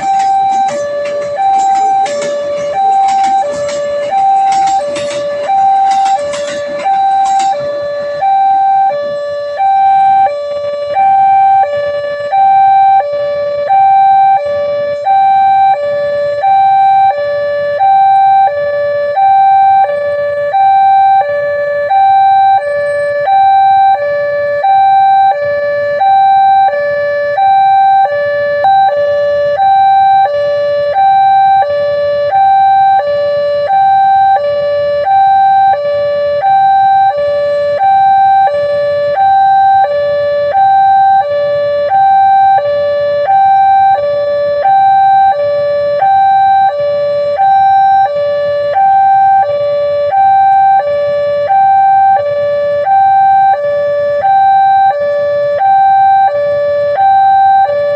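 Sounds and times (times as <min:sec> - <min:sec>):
two-tone warning siren: 0:00.0 - 0:57.9.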